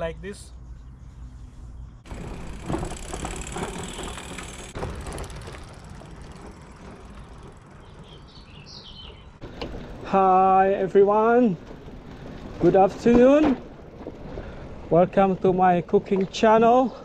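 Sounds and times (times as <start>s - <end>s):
bicycle tyres rolling on tarmac: 2.0s - 17.0s.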